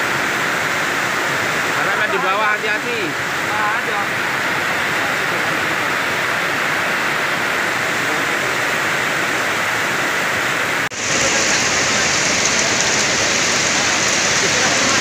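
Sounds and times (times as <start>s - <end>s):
heavy rain hissing: 0.0s - 15.0s
mud flood rushing: 0.0s - 15.0s.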